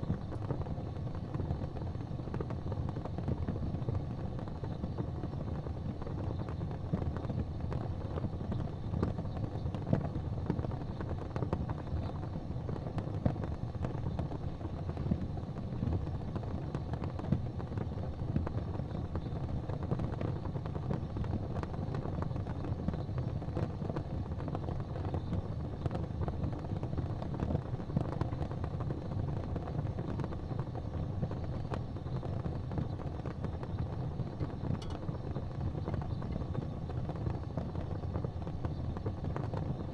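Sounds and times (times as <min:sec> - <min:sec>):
fire burning and crackling: 0:00.0 - 0:39.9
fire popping: 0:00.0 - 0:39.9.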